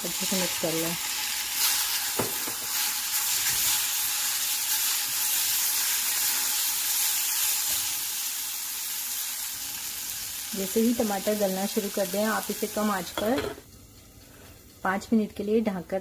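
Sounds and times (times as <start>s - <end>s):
tomatoes sizzling in hot oil: 0.0s - 16.0s.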